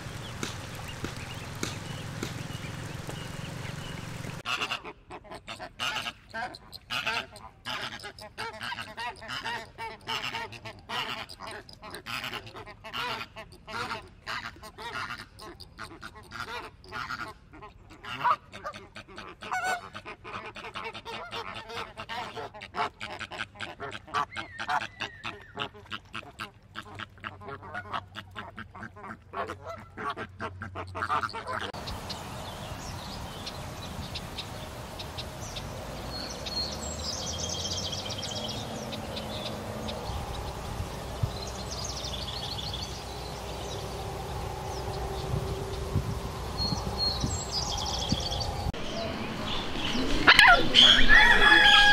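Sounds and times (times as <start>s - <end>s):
ducks quacking and honking: 0.0s - 40.5s, 49.0s - 51.9s
wetland background: 0.0s - 51.9s.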